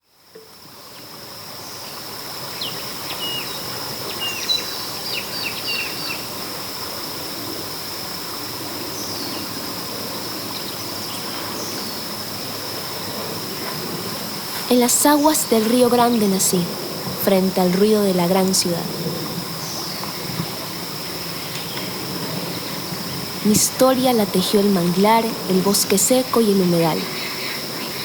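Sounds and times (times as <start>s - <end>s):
background hiss: 0.0s - 28.0s.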